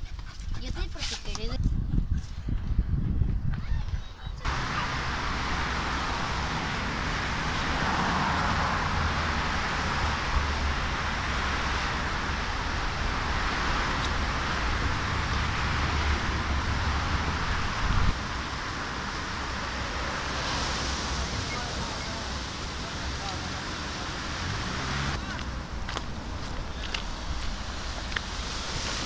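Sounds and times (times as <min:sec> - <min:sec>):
highway traffic: 0:00.0 - 0:29.0.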